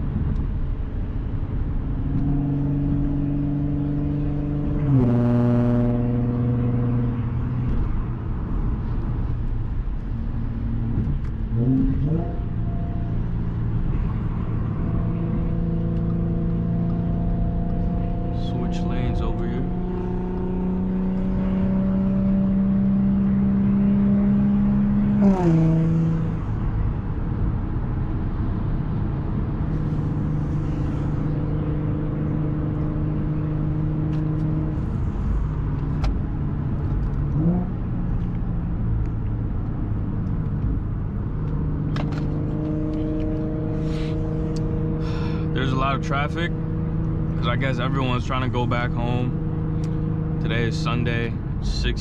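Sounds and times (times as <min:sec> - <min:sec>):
car engine running while driving: 0:00.0 - 0:52.0.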